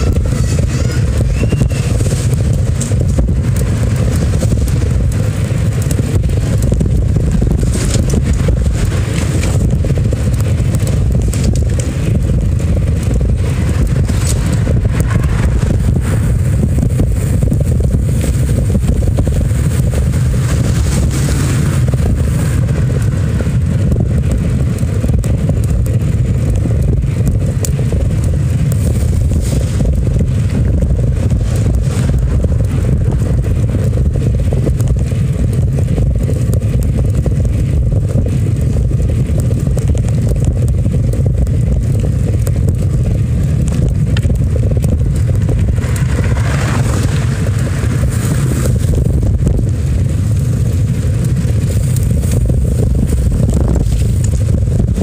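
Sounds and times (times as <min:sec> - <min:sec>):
rattles and clicks from bumps: 0:00.0 - 0:55.0
road rumble: 0:00.0 - 0:55.0
wind buffeting microphone: 0:00.0 - 0:55.0.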